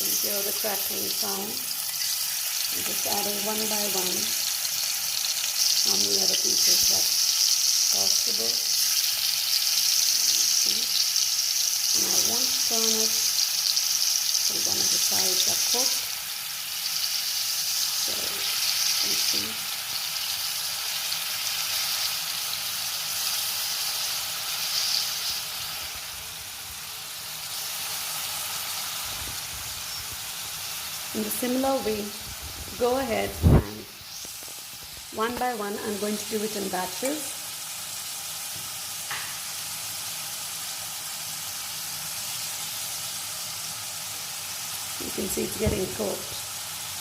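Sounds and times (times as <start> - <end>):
chicken frying in hot oil: 0.0 - 47.0.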